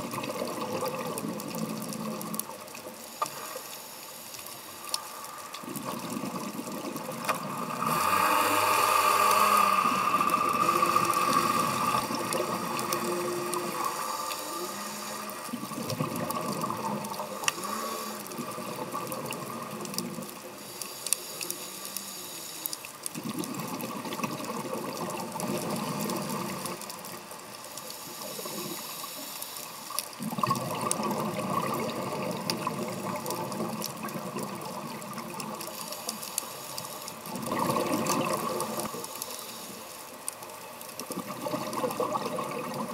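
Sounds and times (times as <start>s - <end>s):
regulator bubbles gurgling underwater: 0.0s - 3.7s, 4.4s - 21.5s, 22.8s - 29.2s, 29.8s - 42.9s
faint clicks: 0.1s - 7.5s, 10.2s - 42.9s.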